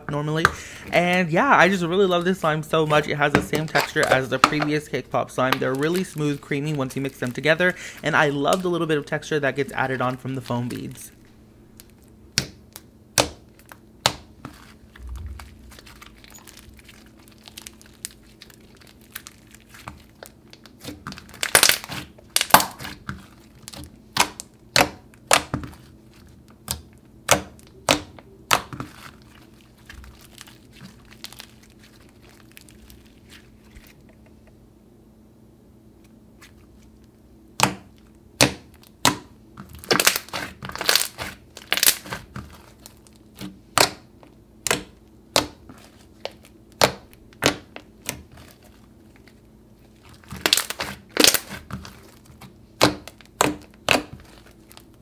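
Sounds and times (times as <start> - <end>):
slime popping and crackling: 2.9 - 7.5, 11.7 - 34.0, 37.6 - 55.0.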